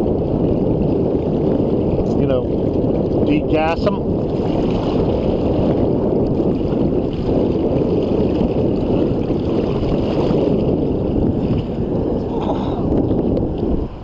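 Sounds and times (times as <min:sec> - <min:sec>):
water splashing along boat: 0:00.0 - 0:14.0
wind on microphone: 0:00.0 - 0:14.0.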